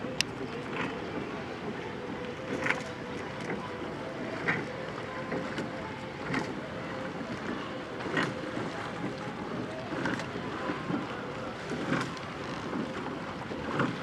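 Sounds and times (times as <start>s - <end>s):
oars knocking and splashing: 0.0s - 14.0s
wind and water noise: 0.0s - 14.0s.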